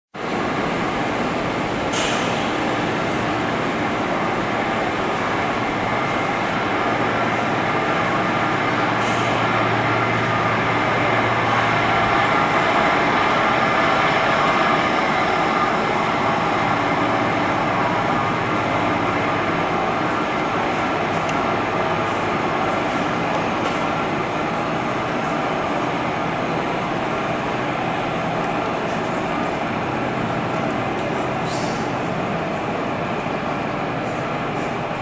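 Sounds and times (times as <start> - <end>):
diesel locomotive idling drone: 0.2 - 35.0.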